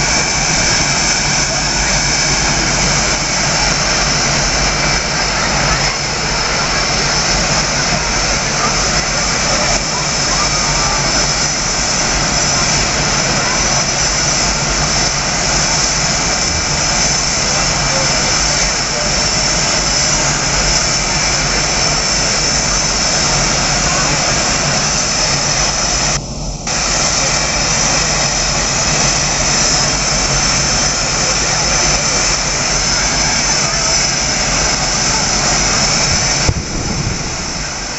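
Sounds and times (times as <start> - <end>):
jet engines roaring with turbine whine: 0.0 - 37.9.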